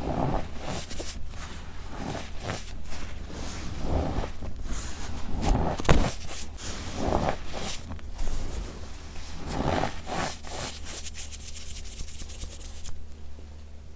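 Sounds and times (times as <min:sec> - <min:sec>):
fine crackles: 0:00.0 - 0:11.4.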